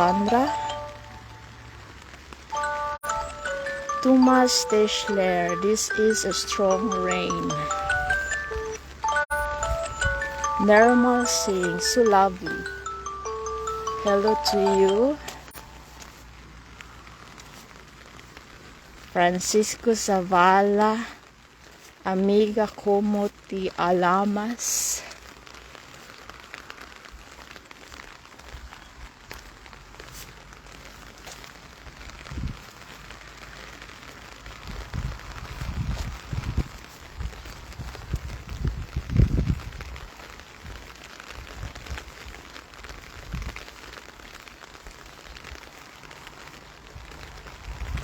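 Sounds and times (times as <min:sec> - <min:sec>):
rain falling: 0:00.0 - 0:48.0
raindrops ticking: 0:00.0 - 0:48.0.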